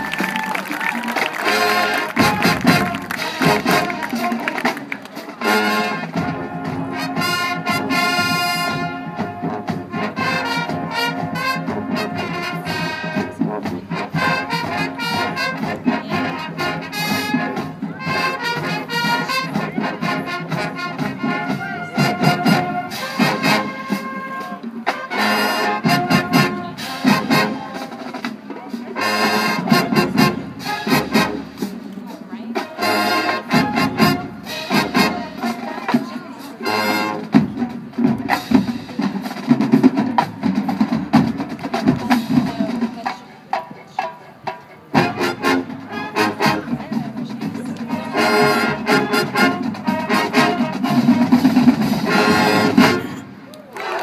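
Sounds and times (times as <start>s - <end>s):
drumline hits: 0.0s - 54.0s
marching band playing: 0.0s - 54.0s.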